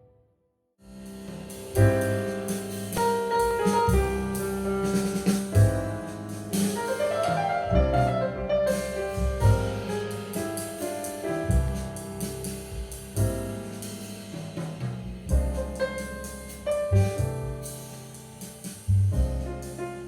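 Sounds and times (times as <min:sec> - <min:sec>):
low drum thumps: 0:01.1 - 0:20.0.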